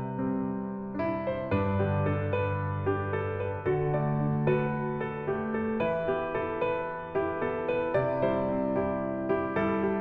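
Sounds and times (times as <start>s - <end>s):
soft piano notes: 0.0s - 10.0s.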